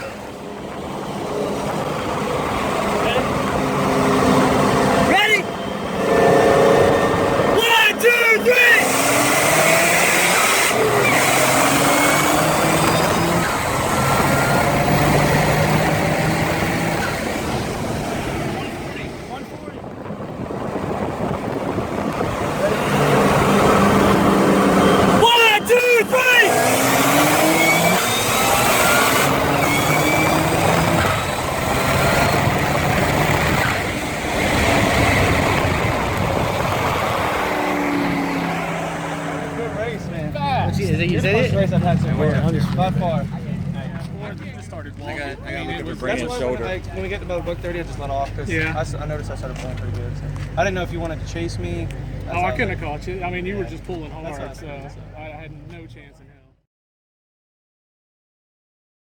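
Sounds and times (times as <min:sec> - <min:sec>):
car engine at full throttle: 0:00.0 - 0:55.4
wind and road noise: 0:00.0 - 0:56.5.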